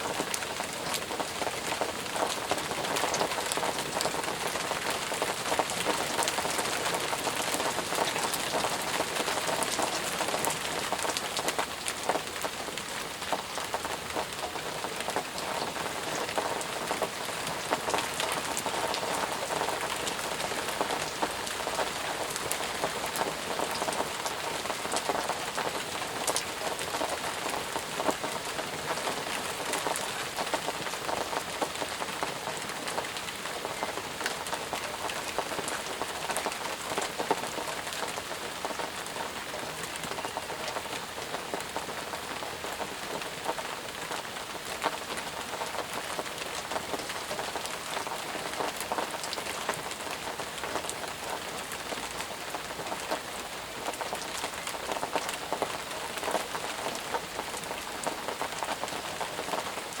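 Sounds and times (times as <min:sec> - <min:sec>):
heavy rain falling: 0:00.0 - 1:00.0
raindrops pattering on surfaces: 0:00.0 - 1:00.0.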